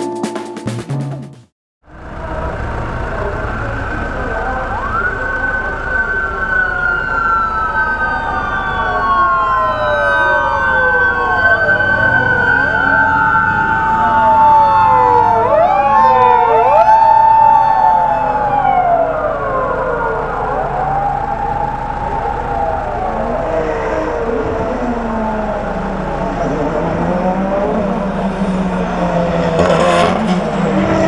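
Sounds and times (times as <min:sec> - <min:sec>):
racing car engines downshifting: 0:01.9 - 0:31.0.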